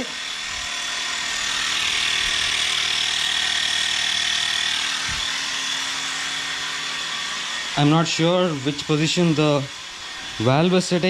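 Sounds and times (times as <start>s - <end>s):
electric tyre inflator running: 0.0s - 11.0s.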